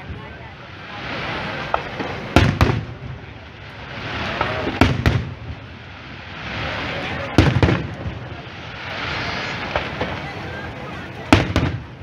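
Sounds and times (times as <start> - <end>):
fireworks bursting with sharp bangs: 0.0 - 12.0
hiss of burning fireworks stars: 0.0 - 12.0.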